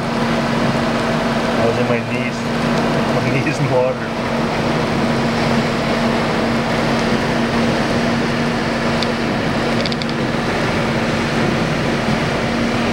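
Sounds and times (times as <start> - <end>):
diesel engines idling: 0.0 - 12.9.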